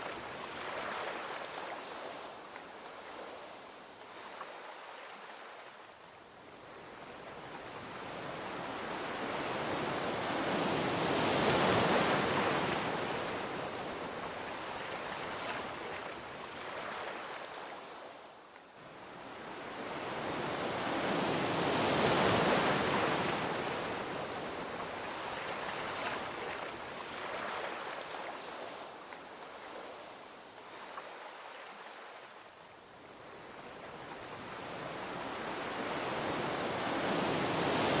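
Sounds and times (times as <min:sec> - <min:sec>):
ocean waves washing onto beach: 0:00.0 - 0:38.0.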